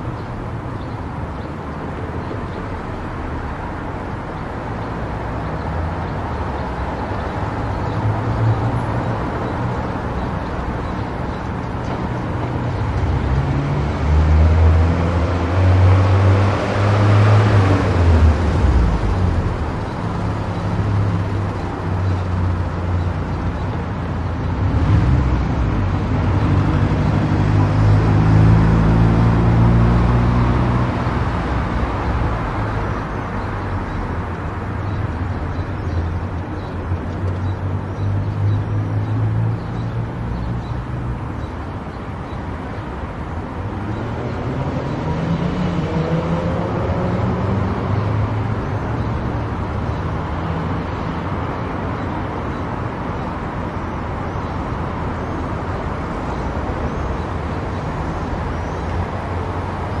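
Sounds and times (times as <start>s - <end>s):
car engine and tyre noise: 0.0s - 60.0s.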